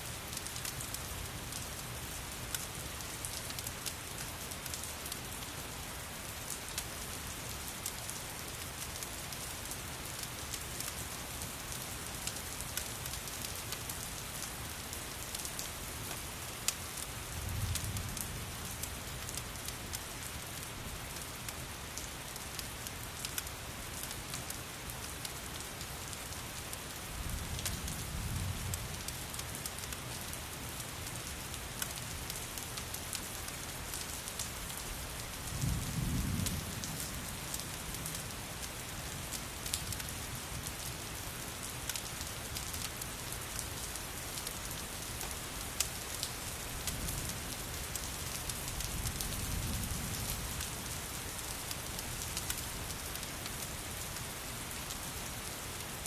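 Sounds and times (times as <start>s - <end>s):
steady rain hissing: 0.0s - 56.0s
wood fire crackling: 0.3s - 6.0s, 6.6s - 56.0s.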